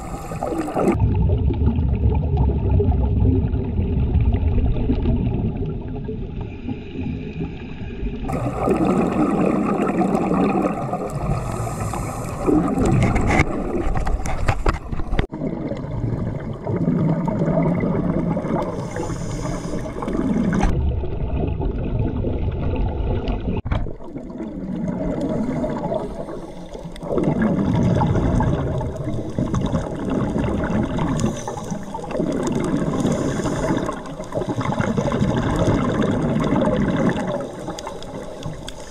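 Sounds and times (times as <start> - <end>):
exhaled bubbles surging: 0.0 - 38.8
underwater rush: 0.0 - 38.9.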